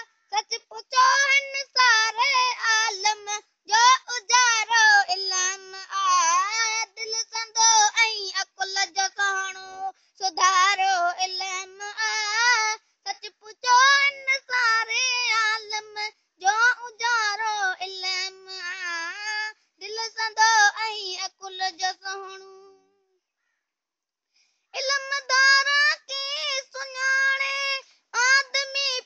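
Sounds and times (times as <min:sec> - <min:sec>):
child chanting a poem: 0:00.0 - 0:22.9, 0:24.8 - 0:29.0.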